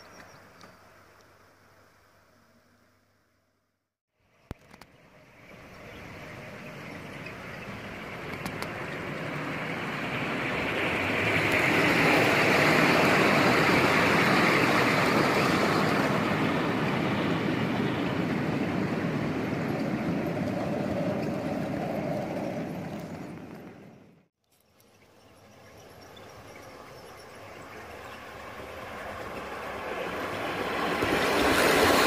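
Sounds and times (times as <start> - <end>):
model train rumbling past: 5.4 - 24.2, 25.0 - 32.0.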